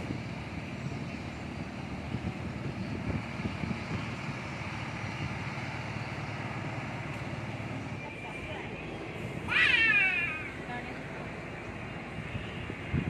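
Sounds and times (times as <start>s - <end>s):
coach diesel engine running: 0.0s - 13.0s.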